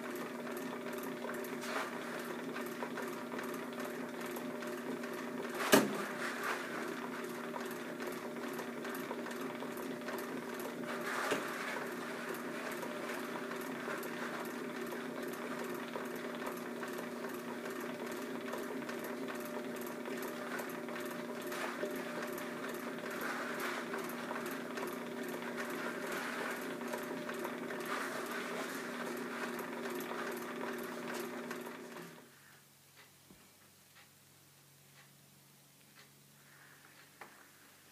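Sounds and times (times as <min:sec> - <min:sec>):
drum carder motor hum with ticking: 0:00.0 - 0:37.8.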